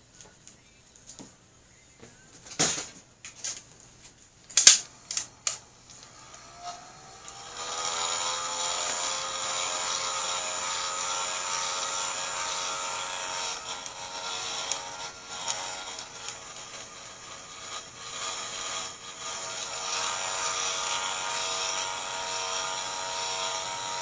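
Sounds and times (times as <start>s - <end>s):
heat gun fan whine: 4.4s - 24.0s.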